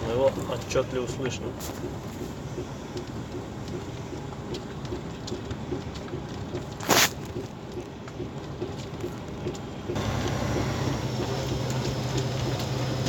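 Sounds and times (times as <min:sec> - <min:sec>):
dull knocking from wheels: 0:00.0 - 0:13.0
truck engine running: 0:00.0 - 0:13.0.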